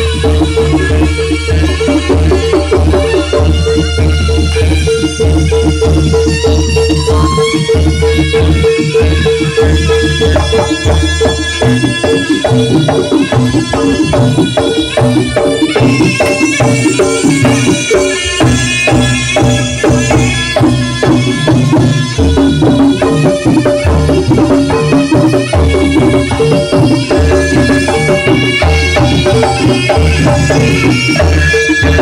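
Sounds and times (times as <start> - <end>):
percussion playing busy rhythm: 0.0 - 32.0
pitched melody: 0.0 - 32.0.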